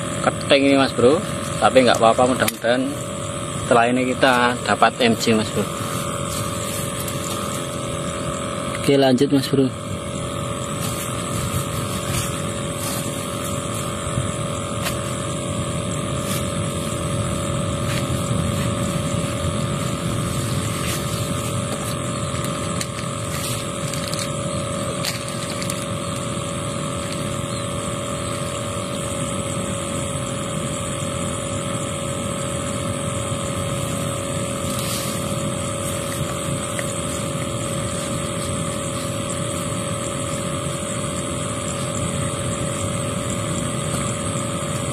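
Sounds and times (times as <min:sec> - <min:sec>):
distant motor drone: 0:00.0 - 0:44.9.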